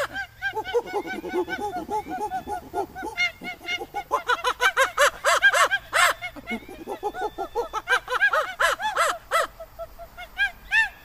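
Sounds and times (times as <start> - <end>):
person imitating monkey hoots: 0.0 - 11.0.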